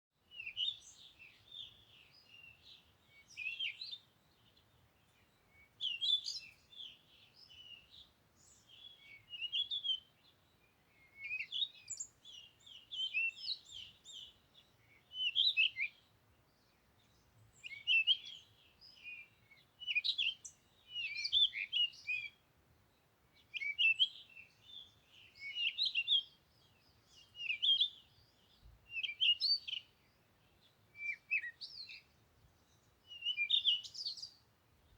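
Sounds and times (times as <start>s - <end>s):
songbird chirping: 0.2s - 34.9s.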